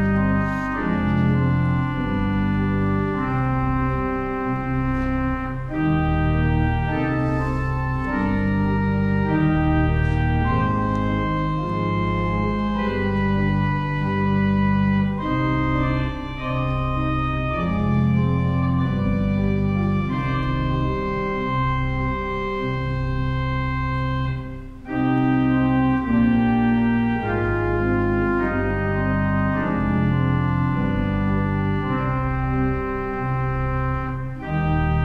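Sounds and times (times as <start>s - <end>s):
pipe organ playing chords: 0.0s - 35.0s.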